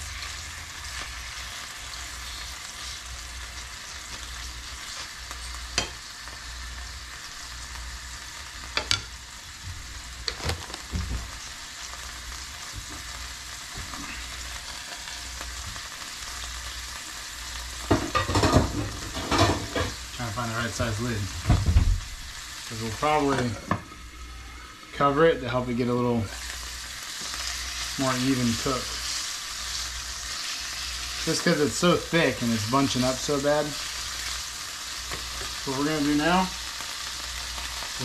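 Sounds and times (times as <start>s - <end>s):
fish sizzling in a frying pan: 0.0s - 38.0s.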